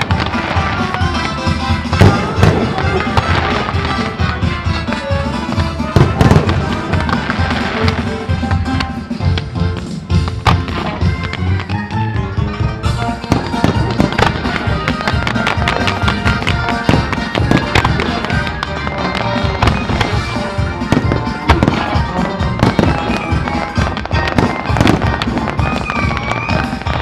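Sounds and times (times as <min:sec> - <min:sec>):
fireworks bangs and pops: 0:00.0 - 0:27.0
music soundtrack: 0:00.0 - 0:27.0.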